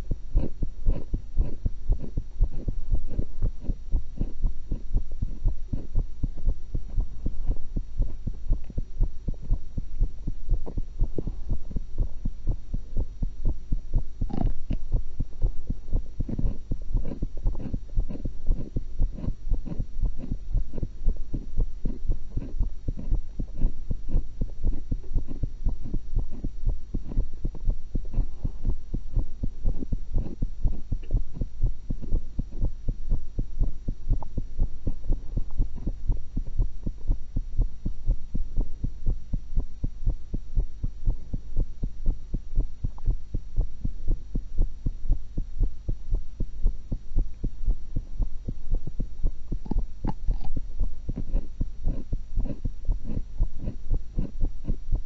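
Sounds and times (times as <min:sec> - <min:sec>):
heartbeat through stethoscope: 0:00.0 - 0:55.0.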